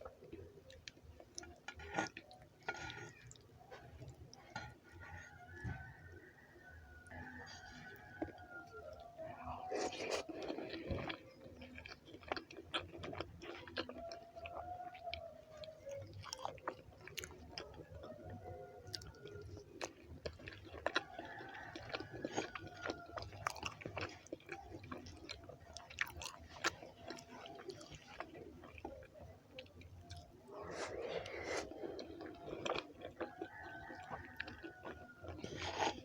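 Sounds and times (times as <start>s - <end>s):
chewing and mouth sounds: 0.0s - 6.2s, 6.9s - 36.0s.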